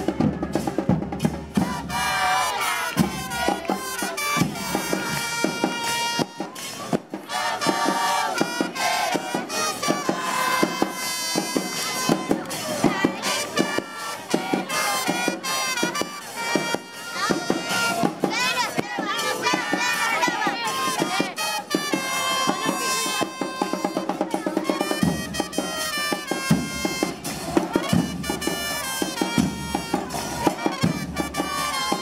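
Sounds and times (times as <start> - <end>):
drums in a quick busy beat: 0.0 - 32.0.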